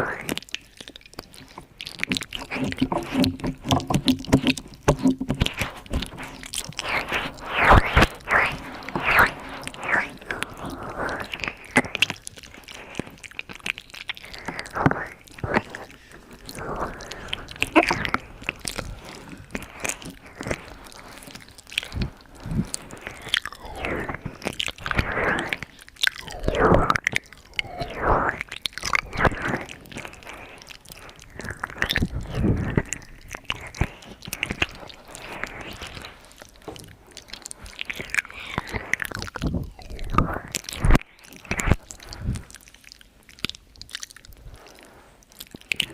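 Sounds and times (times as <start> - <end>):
wet mouth clicks and smacks: 0.0 - 45.9.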